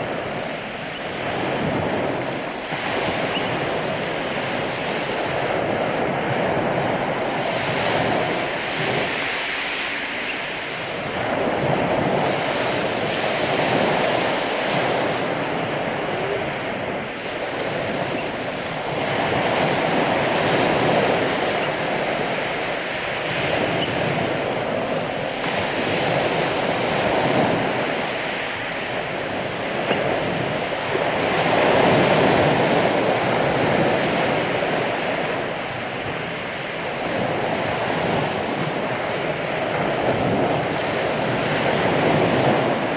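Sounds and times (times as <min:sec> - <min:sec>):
ocean waves breaking on beach: 0:00.0 - 0:42.9
wind buffeting microphone: 0:00.0 - 0:42.9.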